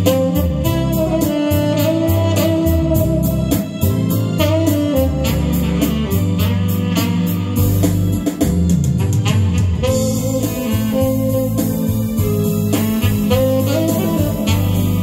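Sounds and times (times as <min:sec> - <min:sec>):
backing track with beat and guitar: 0:00.0 - 0:15.0
tenor saxophone melody: 0:00.0 - 0:15.0.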